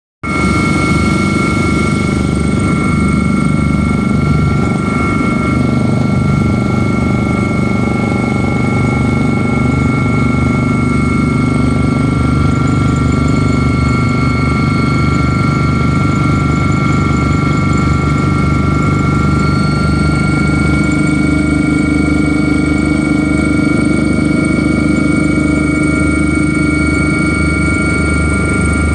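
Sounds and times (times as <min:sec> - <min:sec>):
helicopter rotor and engine drone: 0:00.2 - 0:28.9.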